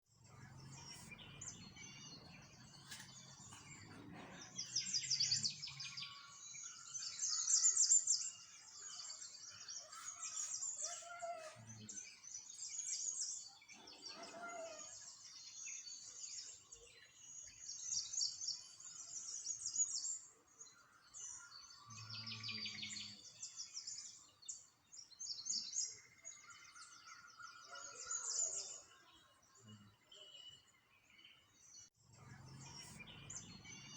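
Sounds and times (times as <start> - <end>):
small songbirds chirping: 0.1 - 33.9.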